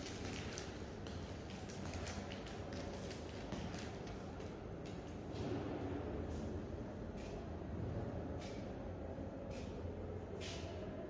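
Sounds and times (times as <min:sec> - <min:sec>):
low hum of station ambience: 0:00.0 - 0:11.0.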